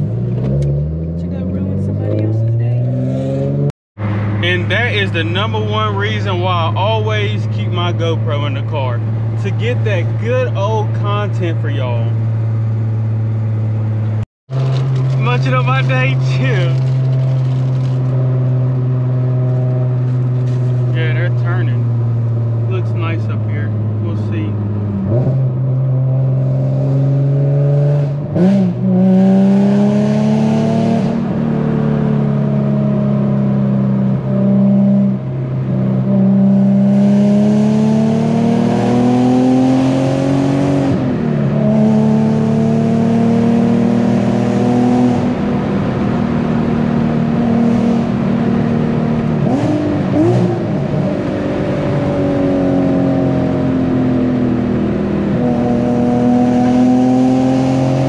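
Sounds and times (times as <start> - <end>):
car engine shifting through gears: 0.0 - 58.0.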